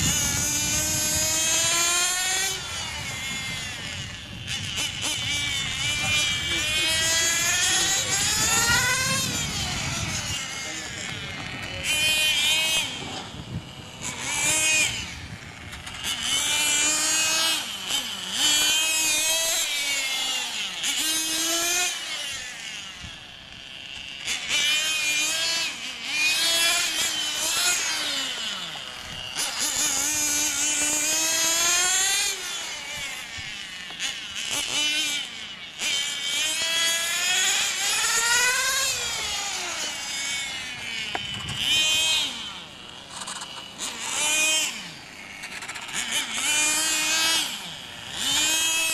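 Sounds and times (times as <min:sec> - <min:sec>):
small motors revving: 0:00.0 - 0:48.9.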